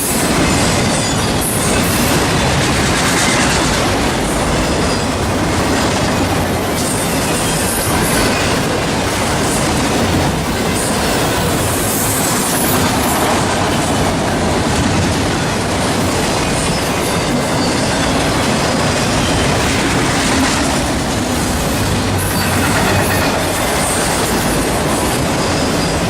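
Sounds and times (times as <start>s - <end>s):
train wheels on rails: 0.0s - 26.0s.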